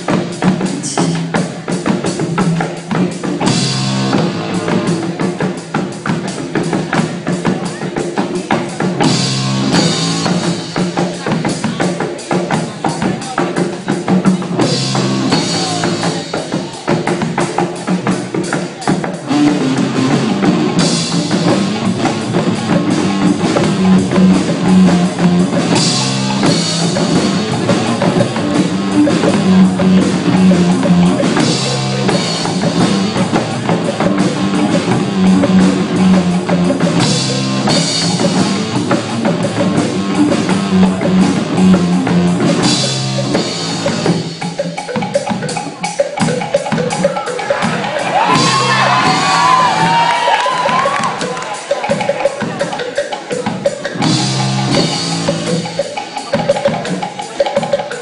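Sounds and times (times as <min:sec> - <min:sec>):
live band playing groove: 0:00.0 - 0:58.0.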